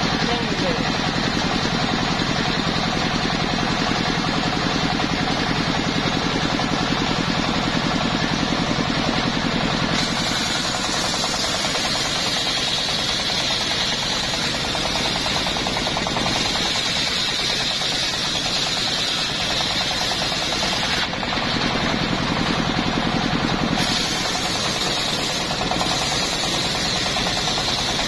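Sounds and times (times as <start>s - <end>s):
saw blade whining cutting log: 0.0s - 28.0s
sawmill engine beating: 0.0s - 28.0s.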